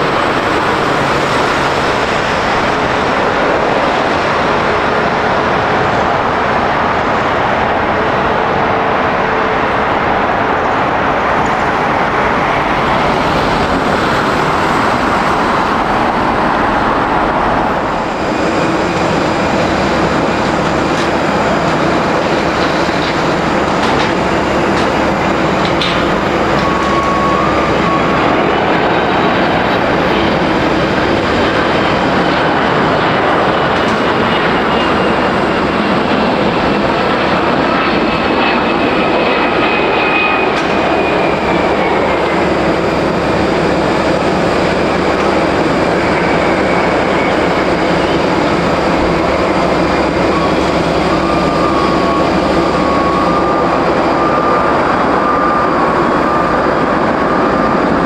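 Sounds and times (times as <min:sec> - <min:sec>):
engine whine tones: 0:00.0 - 0:58.0
jet engine noise: 0:00.0 - 0:58.0.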